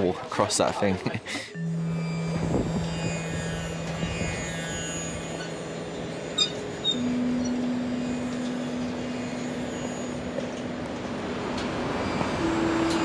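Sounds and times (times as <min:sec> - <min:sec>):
drone music: 0:01.5 - 0:13.0.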